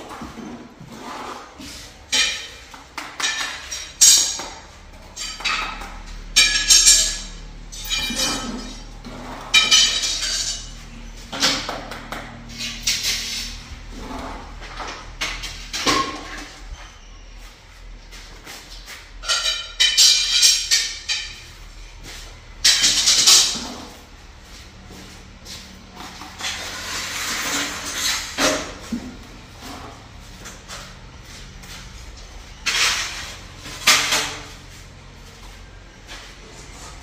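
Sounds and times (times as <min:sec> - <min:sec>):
metal kitchenware clattering: 0:00.0 - 0:17.2, 0:18.8 - 0:24.2, 0:25.5 - 0:35.0.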